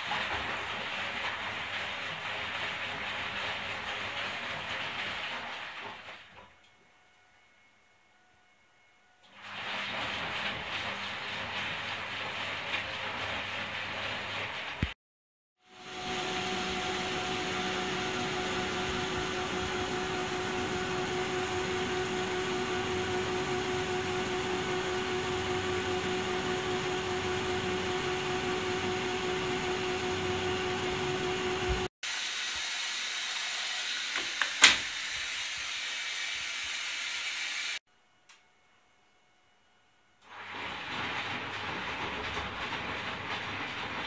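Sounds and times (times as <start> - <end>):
washing machine water hiss: 0.0 - 6.5, 9.3 - 14.9, 15.7 - 37.8, 40.2 - 44.0.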